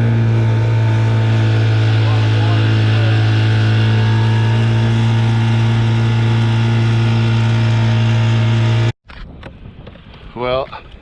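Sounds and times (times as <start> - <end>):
outboard motor running: 0.0 - 9.0.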